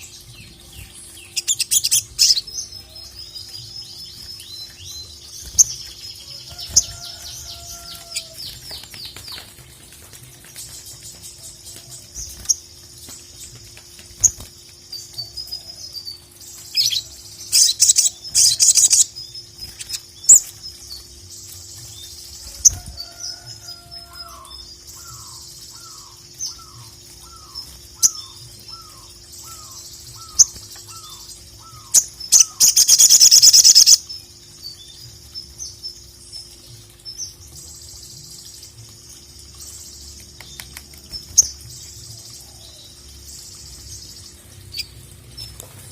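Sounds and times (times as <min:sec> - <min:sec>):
bird chirping: 0:00.0 - 0:45.8.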